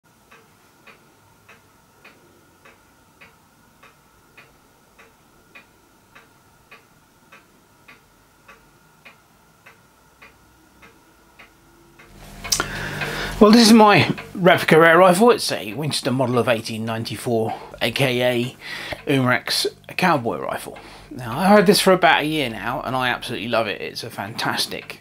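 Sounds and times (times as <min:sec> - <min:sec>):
clock ticking: 0:00.1 - 0:25.0
faint steady whine: 0:00.1 - 0:25.0.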